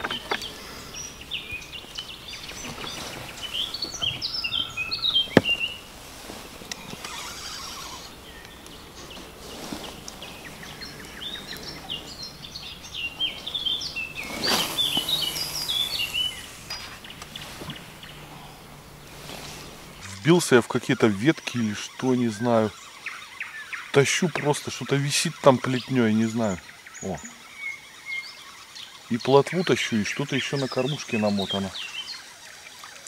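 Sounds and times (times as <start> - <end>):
songbird singing chirping phrases: 0.0 - 33.0.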